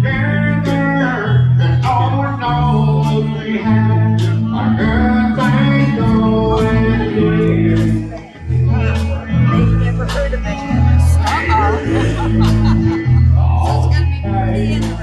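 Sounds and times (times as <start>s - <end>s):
guitar: 0.0s - 15.0s
man singing: 0.0s - 15.0s
walking bass: 0.0s - 15.0s.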